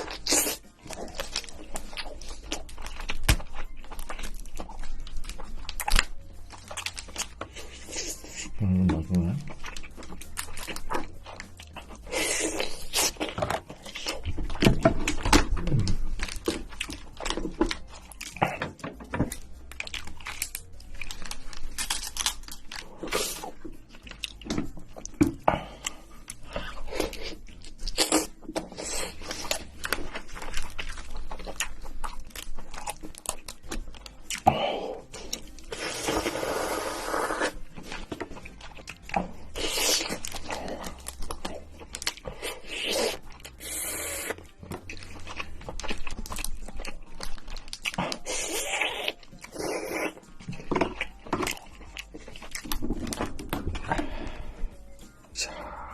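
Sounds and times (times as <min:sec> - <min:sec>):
crab shell cracking and crunching: 0:00.0 - 0:54.5
chewing: 0:00.0 - 0:55.9
tearing and scraping of shell: 0:09.5 - 0:54.3.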